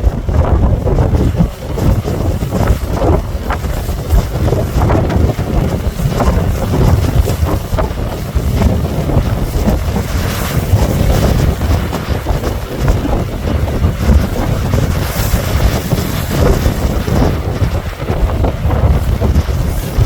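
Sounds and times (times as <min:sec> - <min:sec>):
ocean waves and surf: 0:00.0 - 0:20.0
wind buffeting the microphone: 0:00.0 - 0:20.0.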